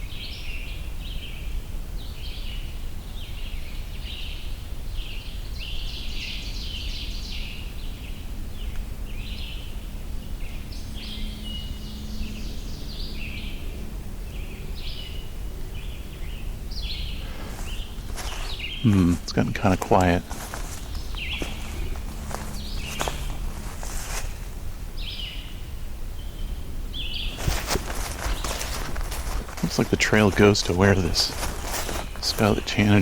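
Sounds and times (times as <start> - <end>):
hoarse bird song: 0.0 - 33.0
songbirds singing: 0.0 - 33.0.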